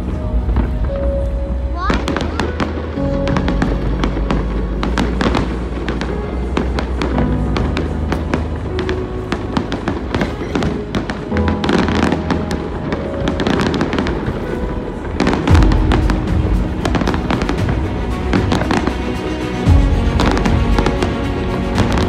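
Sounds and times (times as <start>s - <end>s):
background music: 0.0s - 22.0s
fireworks crackling and booming: 0.0s - 22.0s.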